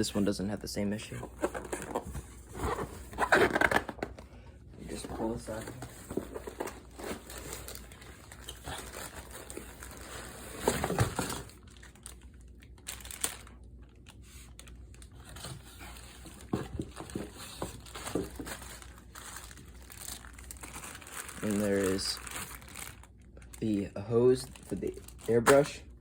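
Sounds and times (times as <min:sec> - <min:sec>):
packaging crinkling and rustling: 0:01.0 - 0:04.2, 0:04.8 - 0:25.9.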